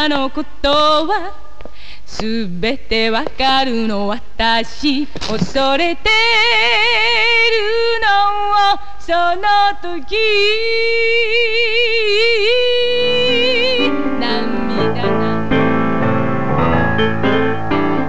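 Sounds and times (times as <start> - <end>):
woman singing with vibrato: 0.0 - 15.6.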